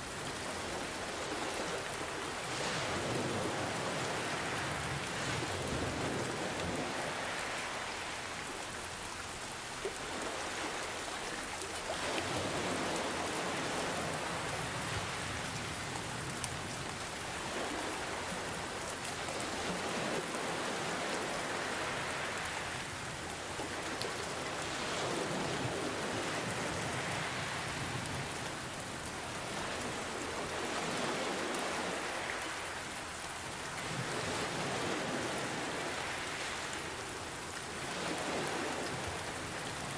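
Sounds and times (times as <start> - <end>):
ocean waves washing: 0.0 - 39.9
steady rain: 0.0 - 39.9.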